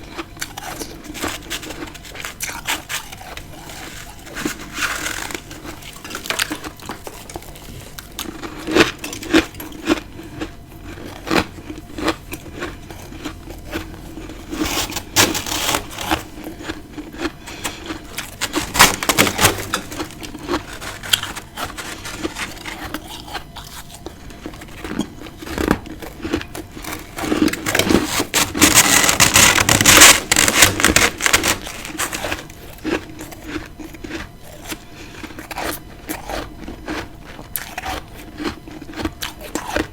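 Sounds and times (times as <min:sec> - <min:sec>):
crunchy chewing of frost: 0:00.0 - 0:39.9.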